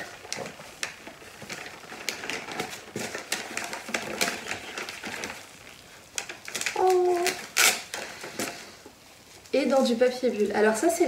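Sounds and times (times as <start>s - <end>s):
paper wrapping crinkling: 0.0s - 10.5s.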